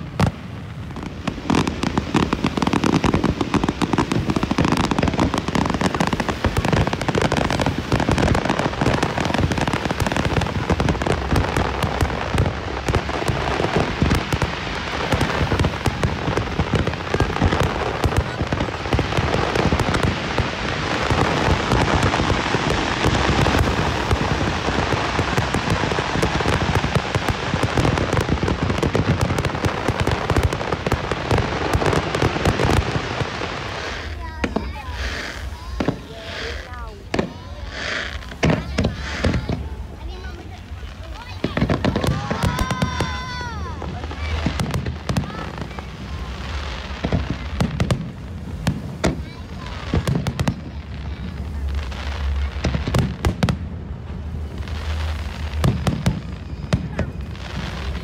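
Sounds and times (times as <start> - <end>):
fireworks crackling and popping: 0.0 - 58.0
low fireworks booms: 0.0 - 58.0.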